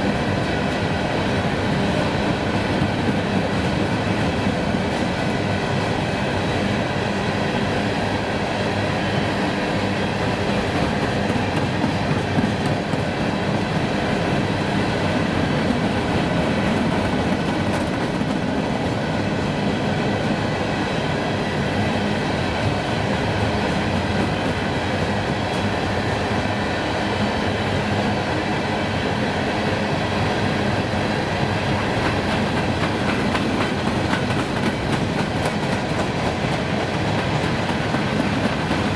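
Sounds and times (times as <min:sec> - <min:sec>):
train cars rumbling and clattering: 0:00.0 - 0:38.9.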